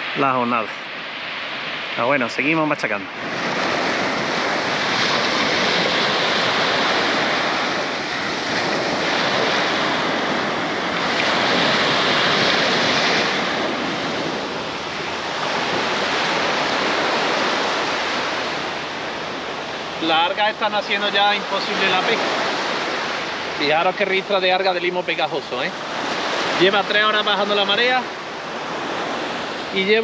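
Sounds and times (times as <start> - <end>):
waves breaking on sandy beach: 0.0 - 30.0.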